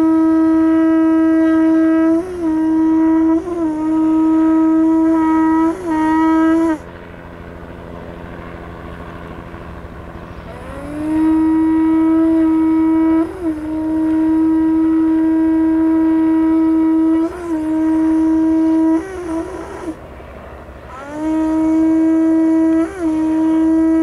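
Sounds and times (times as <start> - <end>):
horn blowing long notes: 0.0 - 6.9, 10.3 - 20.0, 20.9 - 24.0.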